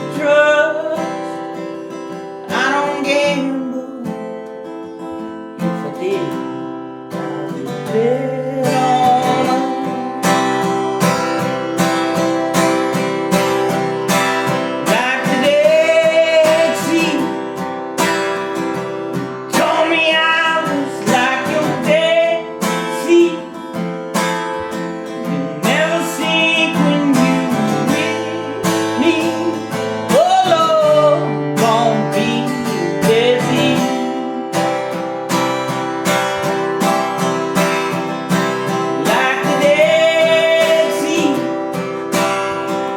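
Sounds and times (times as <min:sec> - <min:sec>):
man singing: 0:00.0 - 0:17.7, 0:18.6 - 0:42.9
acoustic guitar strumming: 0:00.0 - 0:42.9.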